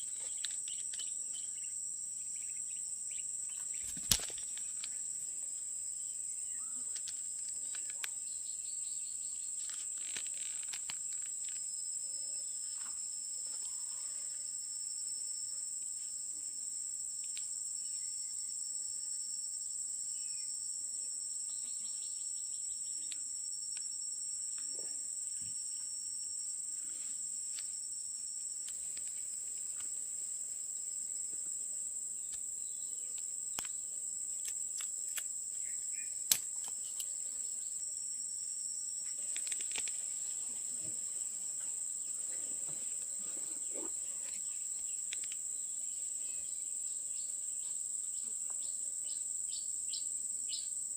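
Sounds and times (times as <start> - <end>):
insect trilling: 0.0 - 15.8, 16.4 - 50.8.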